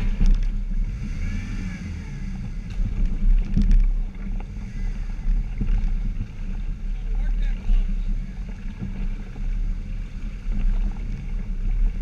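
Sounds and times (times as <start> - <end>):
muffled engine rumble: 0.0 - 12.0.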